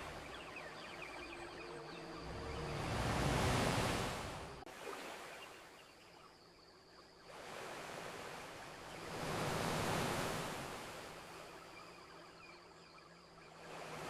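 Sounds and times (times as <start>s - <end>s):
ocean waves on beach: 0.0s - 6.3s, 7.2s - 14.0s.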